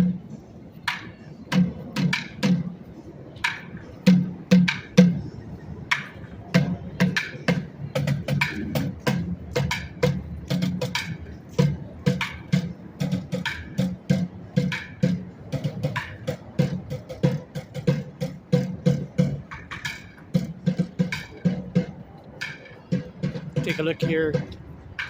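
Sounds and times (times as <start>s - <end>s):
percussive beat music: 3.4s - 5.3s, 5.9s - 25.0s.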